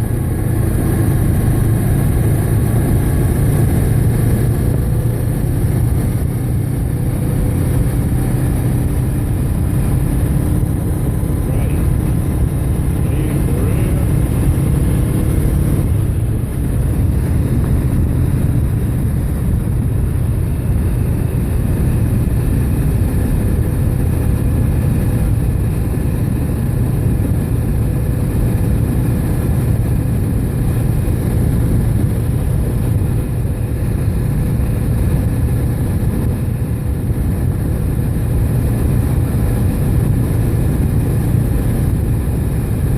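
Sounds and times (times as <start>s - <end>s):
motorcycle engine hum: 0.0s - 42.9s
passing vehicle engine: 0.0s - 42.9s
wind rumble on microphone: 0.0s - 42.9s.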